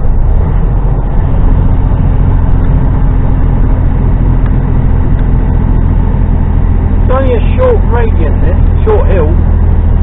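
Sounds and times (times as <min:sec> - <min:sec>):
road noise: 0:00.0 - 0:10.0
truck diesel engine droning: 0:00.0 - 0:10.0.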